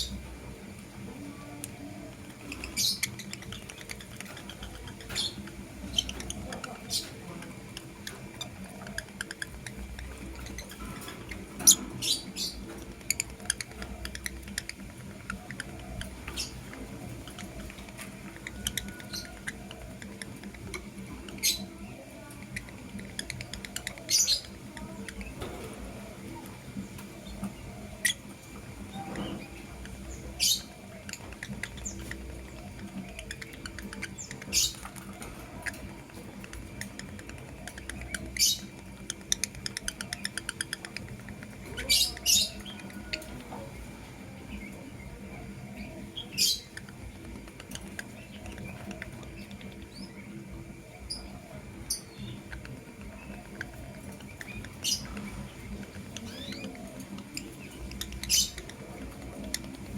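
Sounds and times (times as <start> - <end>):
lovebirds chirping: 0.0 - 59.9.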